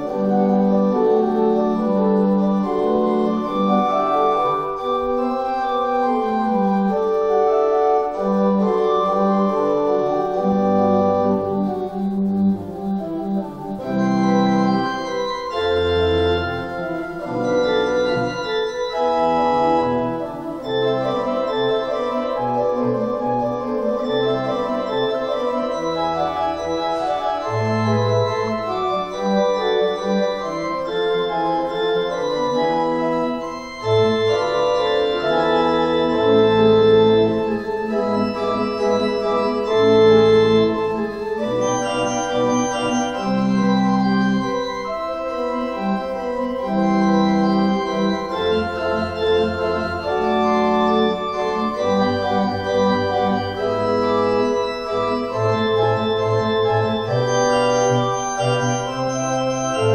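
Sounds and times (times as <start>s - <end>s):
church organ chords: 0.0s - 59.9s.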